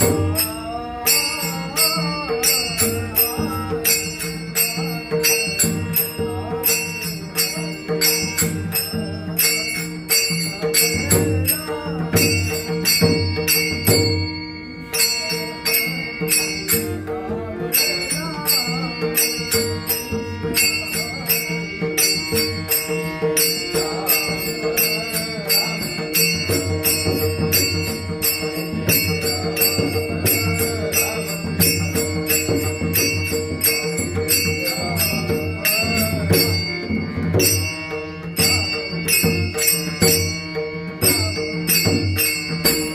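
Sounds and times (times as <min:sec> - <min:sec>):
person singing: 0:00.0 - 0:13.1, 0:14.9 - 0:42.9
hand cymbals clashing: 0:00.0 - 0:42.9.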